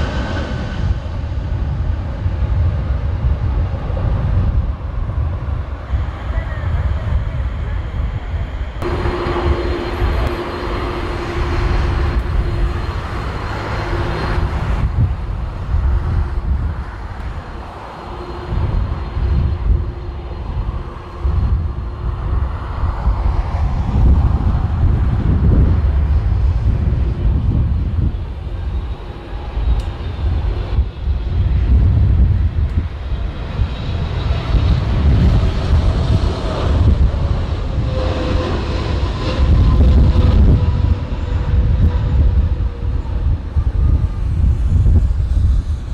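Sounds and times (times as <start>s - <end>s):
jet engines whining: 0.0s - 45.9s
wind buffeting microphone: 0.0s - 45.9s.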